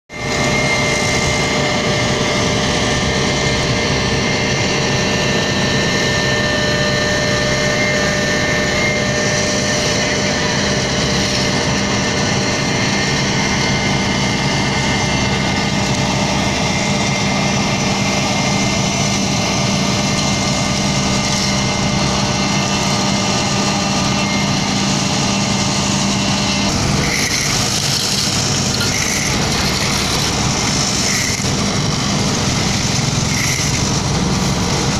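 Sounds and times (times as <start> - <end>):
diesel paving machine running: 0.1 - 34.9.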